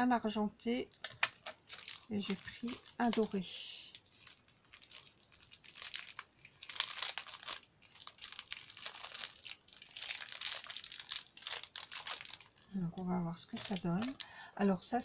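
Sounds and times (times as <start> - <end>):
plastic packaging crinkling: 0.9 - 14.3.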